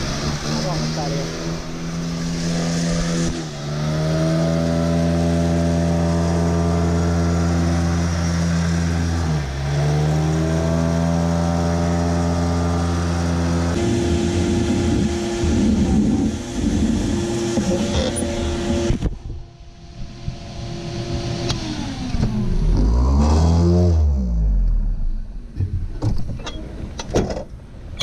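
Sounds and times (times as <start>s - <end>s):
vacuum blower motor hum: 0.1s - 19.2s, 20.0s - 23.4s.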